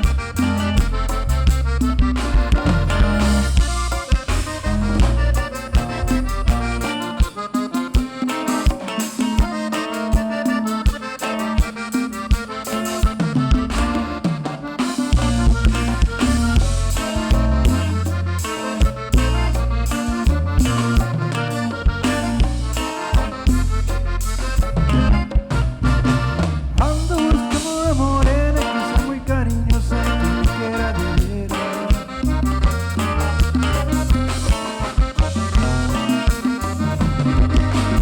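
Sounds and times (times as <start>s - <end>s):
cumbia band playing: 0.0s - 38.0s.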